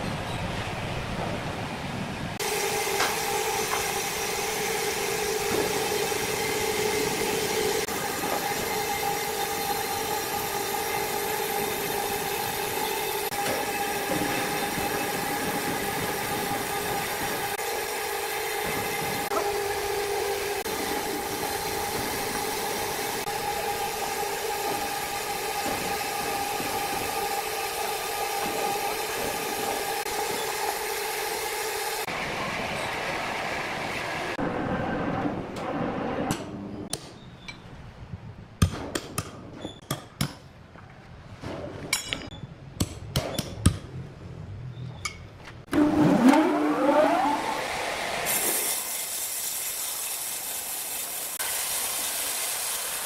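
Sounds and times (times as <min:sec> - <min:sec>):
sawmill machinery humming: 0:00.7 - 0:36.8, 0:45.7 - 0:53.0.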